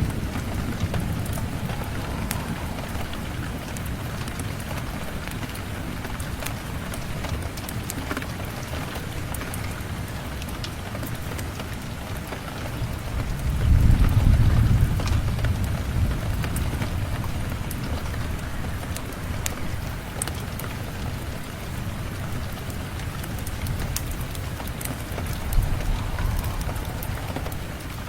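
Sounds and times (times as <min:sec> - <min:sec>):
steady rain: 0:00.0 - 0:28.0
thunder rumble: 0:00.0 - 0:28.0.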